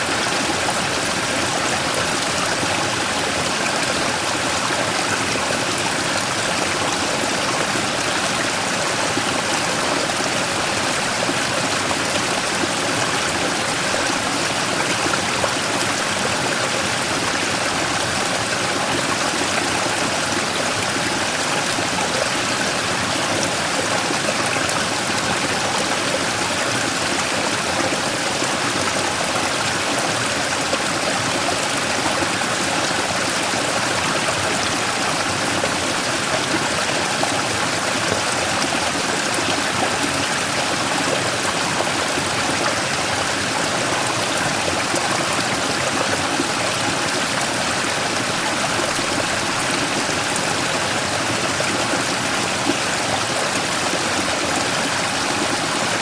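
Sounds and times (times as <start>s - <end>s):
stream rushing over rock: 0.0s - 56.0s.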